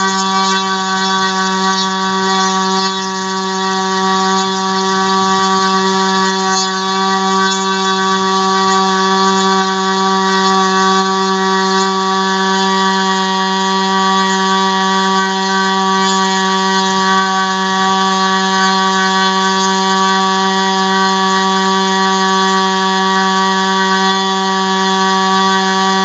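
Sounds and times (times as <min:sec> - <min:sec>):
model engine high-pitched drone: 0:00.0 - 0:26.0.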